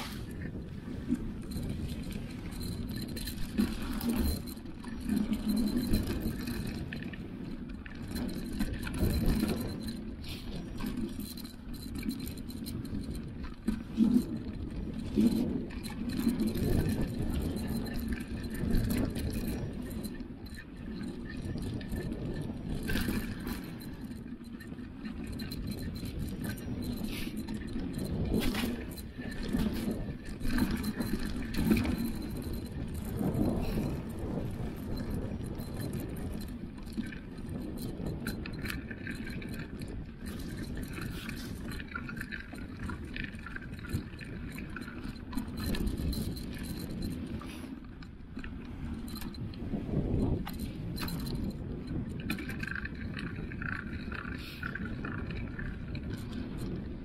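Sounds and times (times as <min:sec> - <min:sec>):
bike rattling over bumps: 0:00.0 - 0:47.7
wind on microphone: 0:00.0 - 0:57.0.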